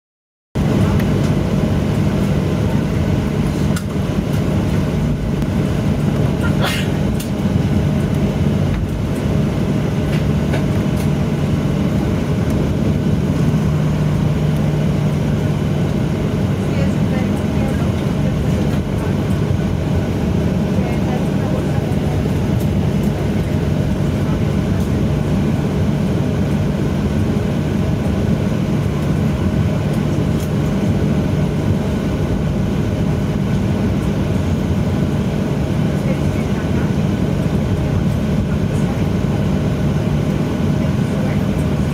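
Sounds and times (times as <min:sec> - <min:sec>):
jet engines and wheel rumble roar: 0:00.6 - 0:41.9
low hum tones: 0:00.6 - 0:41.9.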